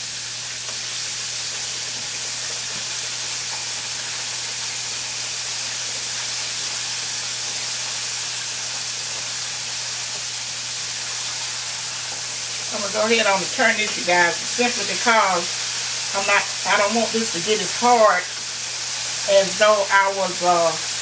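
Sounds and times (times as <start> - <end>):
pork chops sizzling in oil: 0.0 - 21.0.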